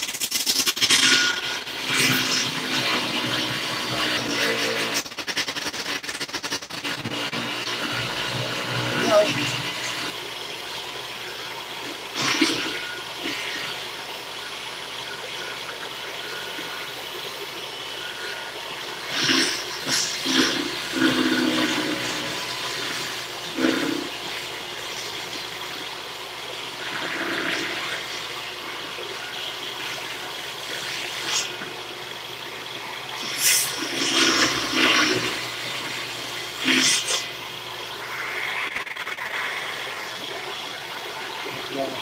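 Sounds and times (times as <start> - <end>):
machine whirring: 0.0 - 42.0.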